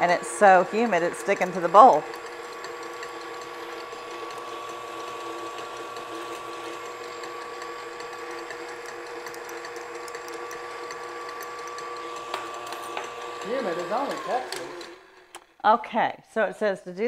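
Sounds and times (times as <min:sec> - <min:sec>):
whisk beating in steel bowl: 0:00.0 - 0:15.0
stand mixer whining: 0:00.0 - 0:15.5.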